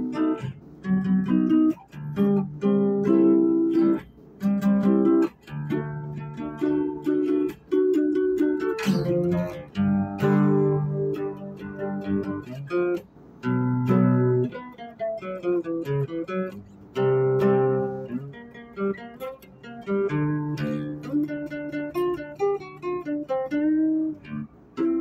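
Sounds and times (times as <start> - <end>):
strummed string instrument chords: 0.0 - 25.0.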